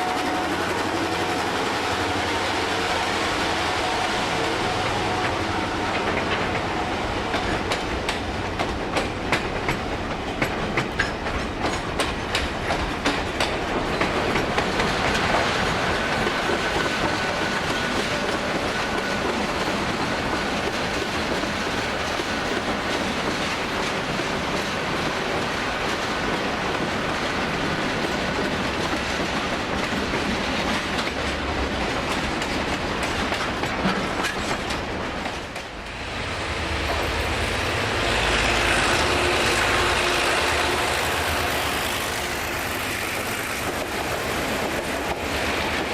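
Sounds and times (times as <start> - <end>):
freight train wagons rolling: 3.9 - 45.9
wheels clacking over rail joints: 5.1 - 45.9.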